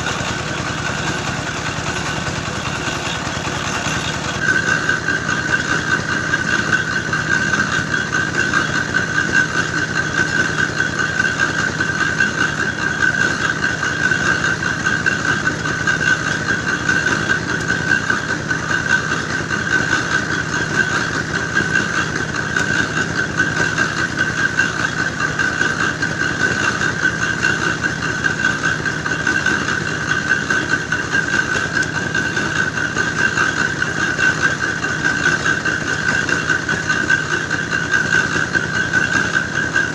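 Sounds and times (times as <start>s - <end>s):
grinding mill engine running: 0.0s - 39.9s.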